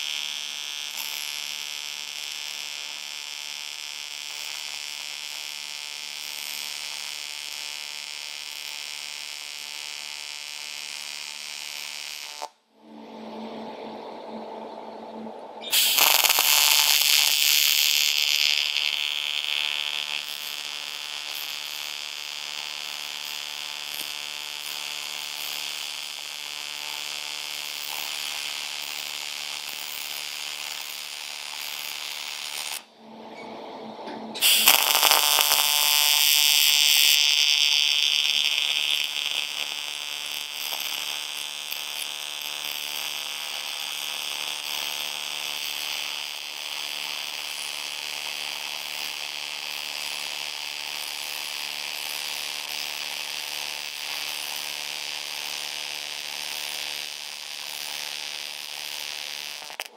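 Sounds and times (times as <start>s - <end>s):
welding arc buzzing: 0.0s - 12.6s, 15.6s - 32.9s, 34.4s - 59.9s.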